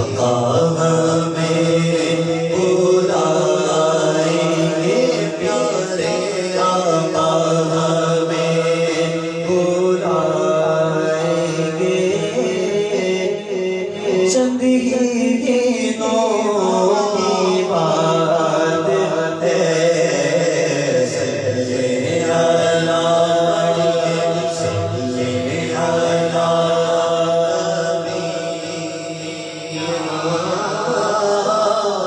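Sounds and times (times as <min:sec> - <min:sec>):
men chanting in long notes: 0:00.0 - 0:32.0.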